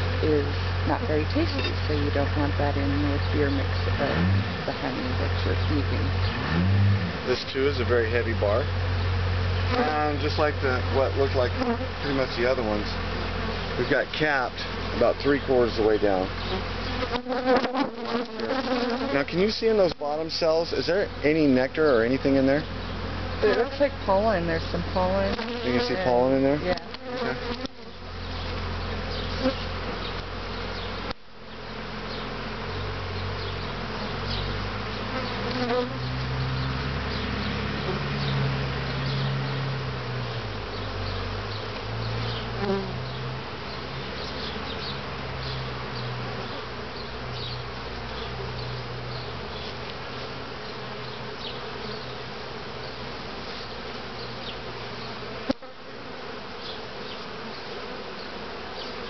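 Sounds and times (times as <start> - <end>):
honeybees buzzing: 0.0 - 59.0.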